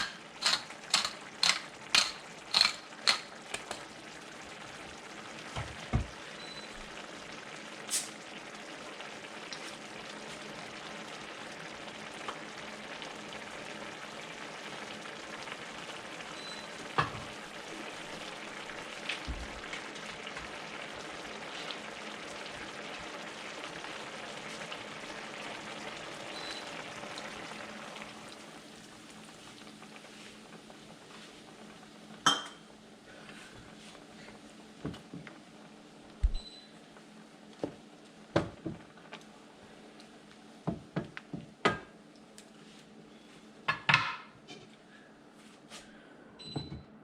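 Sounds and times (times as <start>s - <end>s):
food sizzling in a pan: 0.0s - 44.6s.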